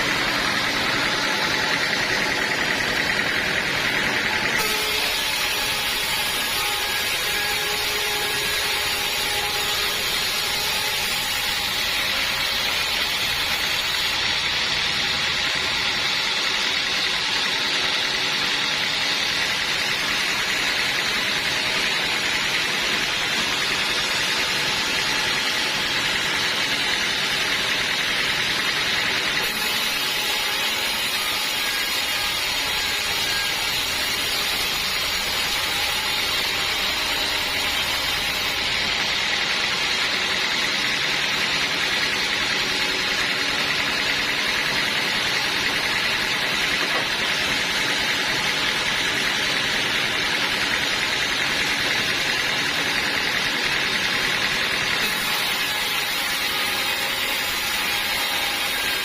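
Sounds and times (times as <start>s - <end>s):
sawmill sawing log: 0.0s - 59.0s.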